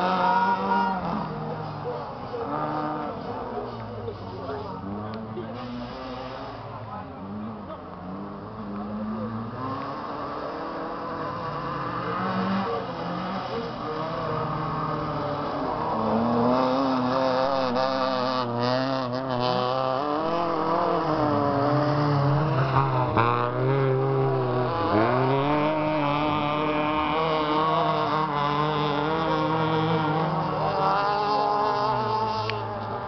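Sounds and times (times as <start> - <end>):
car engine revving hard: 0.0 - 33.0.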